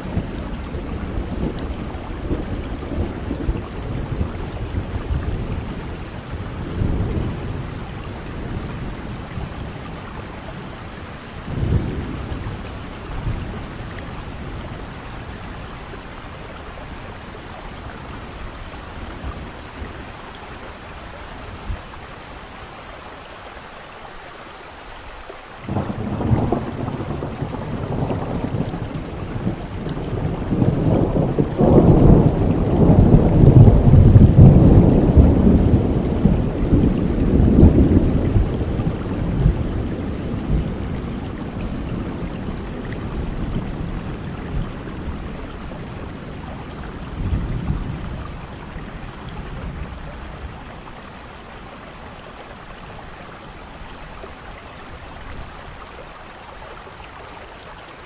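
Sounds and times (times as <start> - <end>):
thunder rumbling: 0.0 - 22.5, 25.6 - 55.8
steady rain: 0.0 - 58.0.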